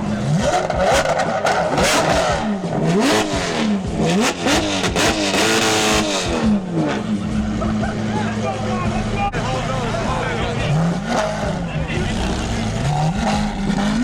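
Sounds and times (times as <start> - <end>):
sports car engine revving: 0.0 - 14.0.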